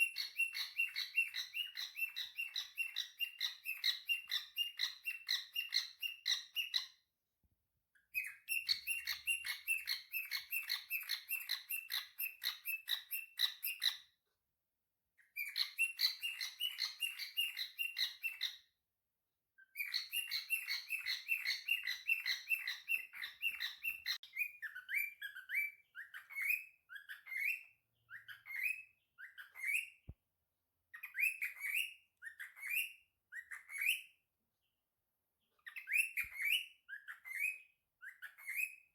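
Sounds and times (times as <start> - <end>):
cockatiel chirping: 0.0 - 7.0, 8.1 - 14.1, 15.2 - 18.7, 19.6 - 30.1, 30.9 - 34.2, 35.5 - 38.9.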